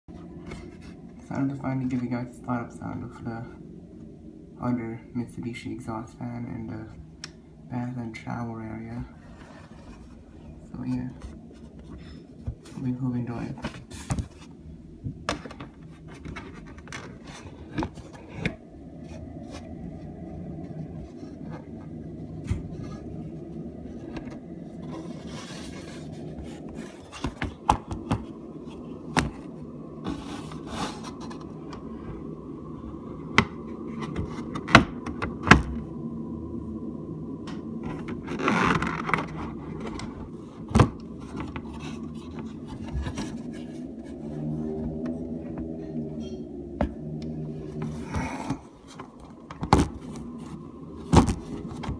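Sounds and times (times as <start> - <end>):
steady low hum: 0.1 - 51.9.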